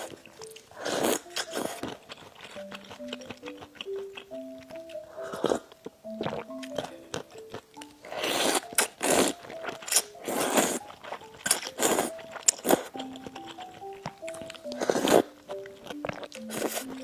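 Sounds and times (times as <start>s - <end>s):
loud crunching chewing: 0.0s - 17.0s
soft background music: 0.0s - 17.0s.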